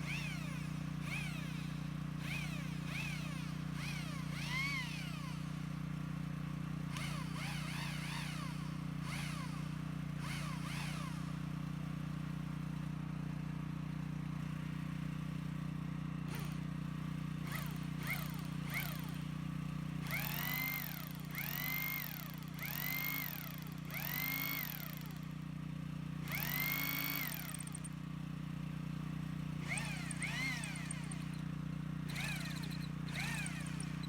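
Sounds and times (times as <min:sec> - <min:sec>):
hammer drill motor revving: 0:00.0 - 0:11.9, 0:16.3 - 0:16.7, 0:17.3 - 0:34.0.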